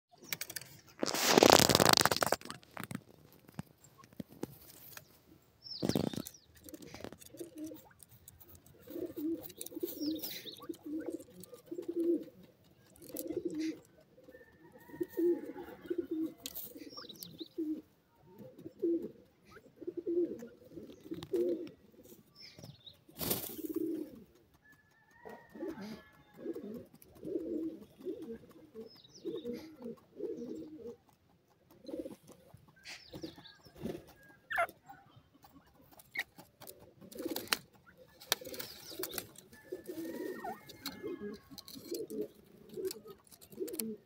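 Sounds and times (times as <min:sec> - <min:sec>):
wings fluttering in sand: 0:00.1 - 0:05.2, 0:05.8 - 0:17.1, 0:22.6 - 0:34.8, 0:35.4 - 0:44.0
soft low cooing bird calls: 0:03.8 - 0:44.0.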